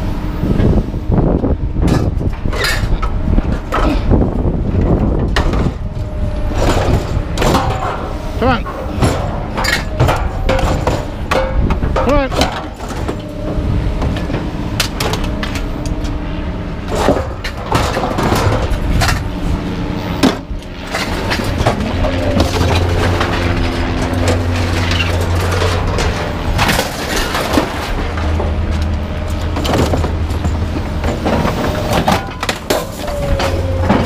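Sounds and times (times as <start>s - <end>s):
low hum: 0.0s - 34.0s
scrap metal clanking: 1.8s - 3.0s, 5.4s - 16.2s, 16.8s - 34.0s.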